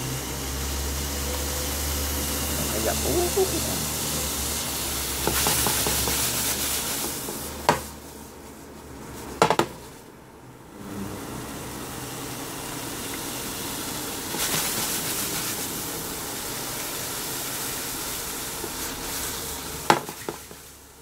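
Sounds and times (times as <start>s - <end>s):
pupae sizzling in a pan: 0.0s - 21.0s.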